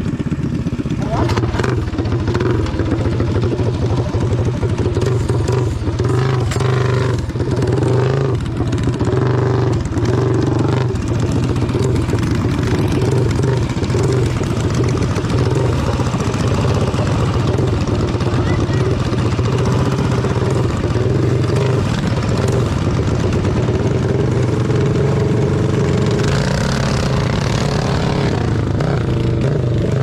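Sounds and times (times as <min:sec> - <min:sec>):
motorbike engine running: 0:00.0 - 0:30.0.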